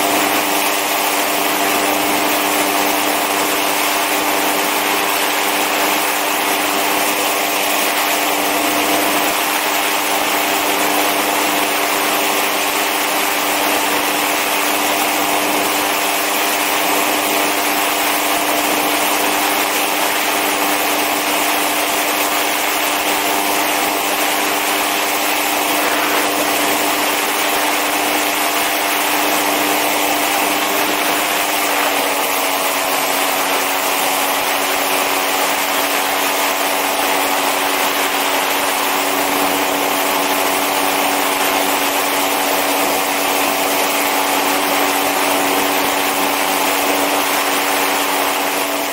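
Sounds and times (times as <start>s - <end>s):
powered parachute engine running: 0.0s - 48.9s.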